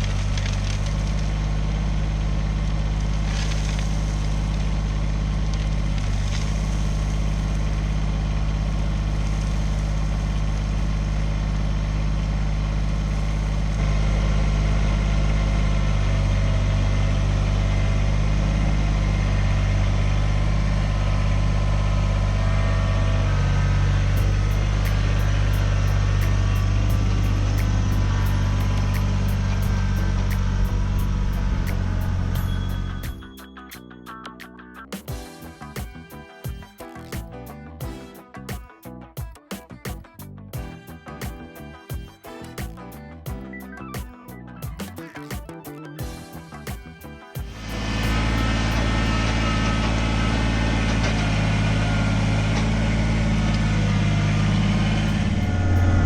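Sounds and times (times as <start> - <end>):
tractor diesel engine running: 0.0 - 38.1, 46.0 - 56.0.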